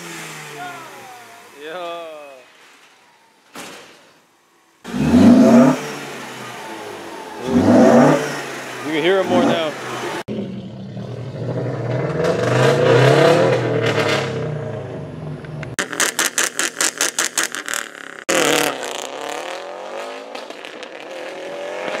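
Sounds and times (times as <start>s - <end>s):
car engine revving: 0.0s - 3.6s, 4.4s - 22.0s.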